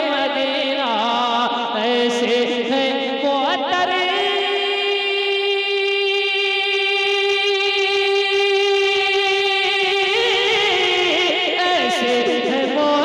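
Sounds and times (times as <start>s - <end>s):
man singing into microphone: 0.0s - 13.0s.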